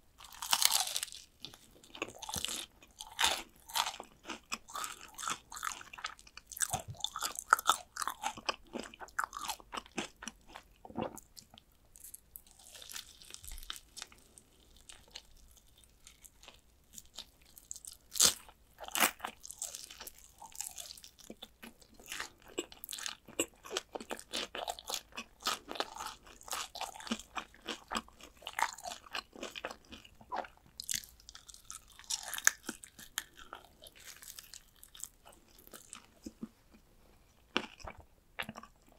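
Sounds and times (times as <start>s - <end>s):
crunching fried chicken: 0.2s - 36.5s
chewing: 0.2s - 38.9s.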